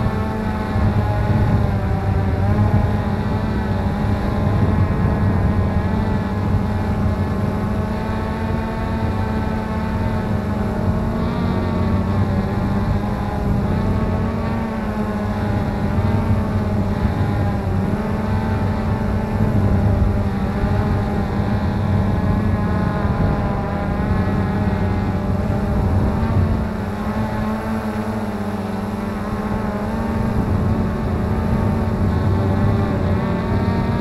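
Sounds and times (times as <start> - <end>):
drone propellers humming: 0.0 - 34.0.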